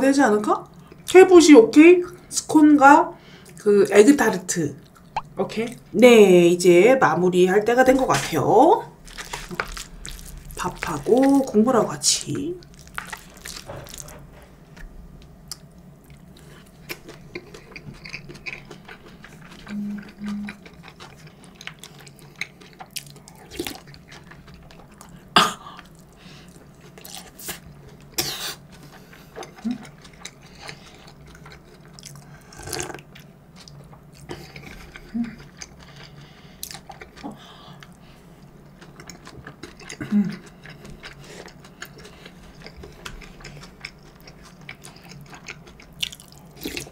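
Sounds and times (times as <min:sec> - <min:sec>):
chewing and mouth sounds: 0:08.0 - 0:46.9.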